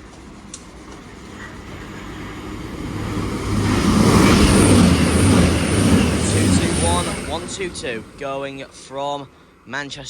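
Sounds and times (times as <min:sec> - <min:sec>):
diesel train engine drone: 0:00.0 - 0:10.0
train wheel noise: 0:00.0 - 0:10.0.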